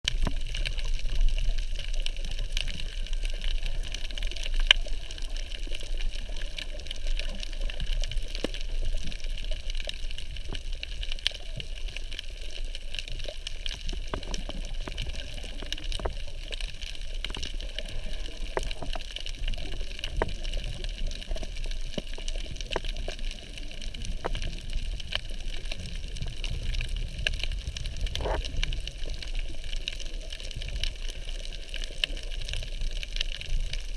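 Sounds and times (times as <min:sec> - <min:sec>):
underwater rumble of moving water: 0:00.0 - 0:33.9.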